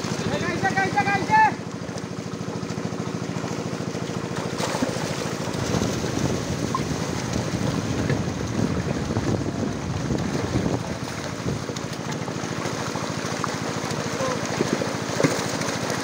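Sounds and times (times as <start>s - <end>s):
fish splashing in water: 0.0s - 16.0s
small engine running: 0.0s - 16.0s.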